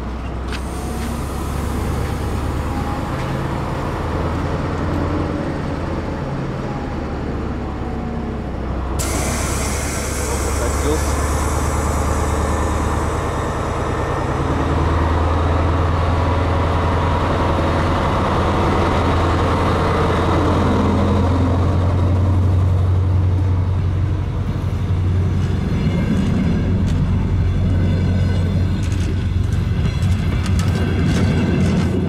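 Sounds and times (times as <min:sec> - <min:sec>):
diesel train engine hum: 0:00.0 - 0:32.0.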